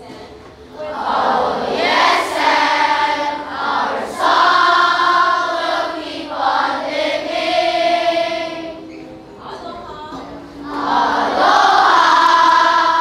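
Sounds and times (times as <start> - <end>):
children singing together: 0.8 - 9.1, 10.5 - 13.0.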